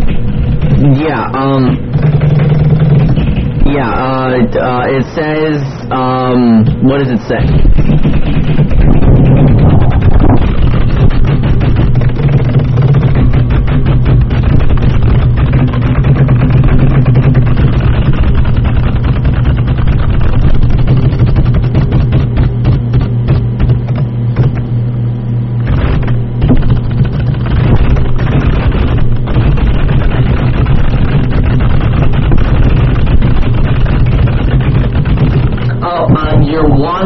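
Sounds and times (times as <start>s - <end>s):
steady low hum: 0.0s - 37.0s
computer keyboard typing: 5.9s - 24.6s, 25.6s - 37.0s.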